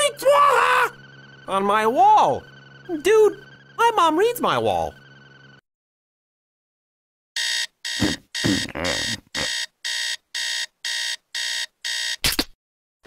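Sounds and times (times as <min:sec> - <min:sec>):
alarm clock beeping: 0:00.0 - 0:05.6, 0:07.4 - 0:12.2.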